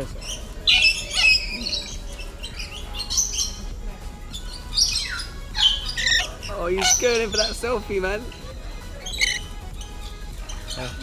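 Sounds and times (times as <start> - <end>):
parrots squawking and screeching: 0.0 - 11.0.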